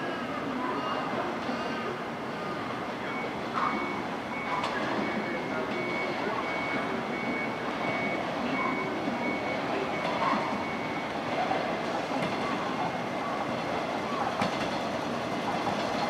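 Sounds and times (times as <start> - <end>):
train wheels rumbling on rails: 1.3 - 16.0.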